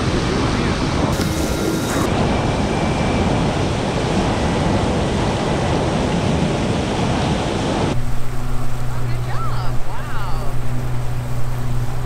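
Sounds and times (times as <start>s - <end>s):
boat wake churning: 0.0s - 12.0s.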